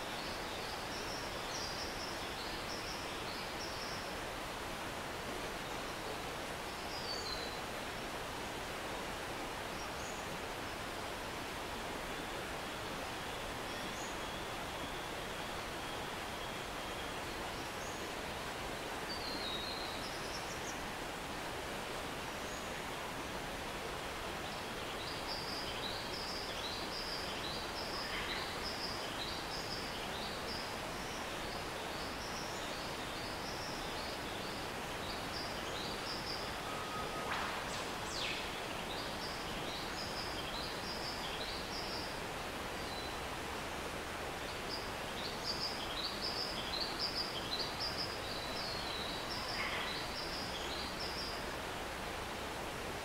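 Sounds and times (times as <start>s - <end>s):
stream rushing: 0.0s - 53.0s.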